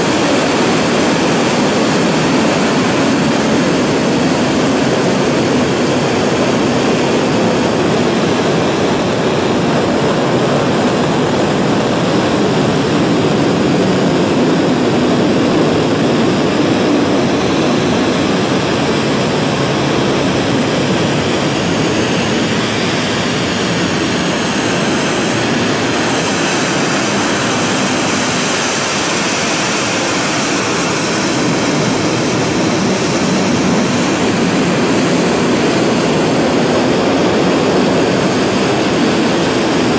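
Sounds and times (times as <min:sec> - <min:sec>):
rocket engine firing: 0:00.0 - 0:39.9.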